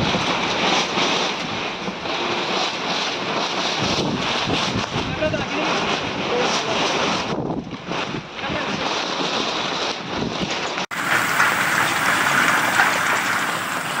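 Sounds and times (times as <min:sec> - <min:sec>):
heavy rain and hail: 0:00.0 - 0:14.0
rain and hail on metal roof: 0:00.0 - 0:14.0
wind buffeting microphone: 0:00.0 - 0:14.0.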